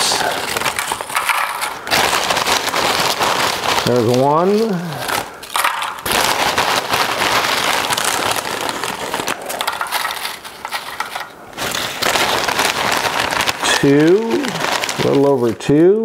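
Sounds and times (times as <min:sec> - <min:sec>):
potato chips crackling and rustling: 0:00.0 - 0:15.9.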